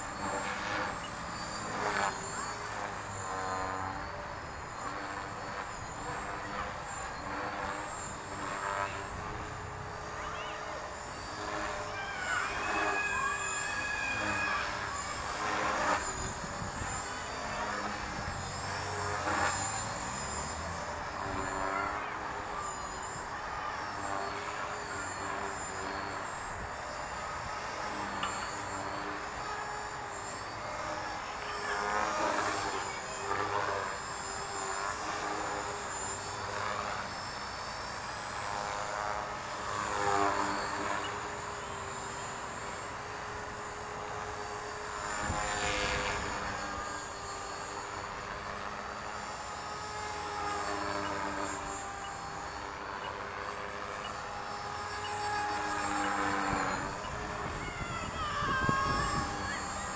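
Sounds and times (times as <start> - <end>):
model helicopter rotor and motor whine: 0.0 - 59.9.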